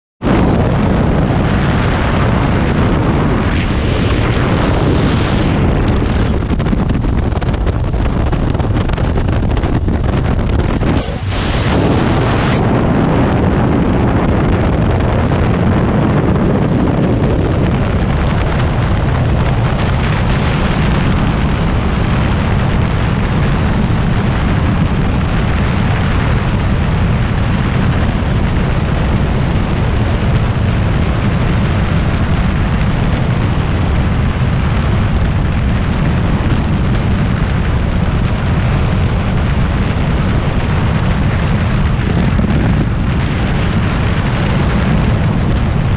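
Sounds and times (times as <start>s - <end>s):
wind buffeting microphone: 0.2s - 45.9s.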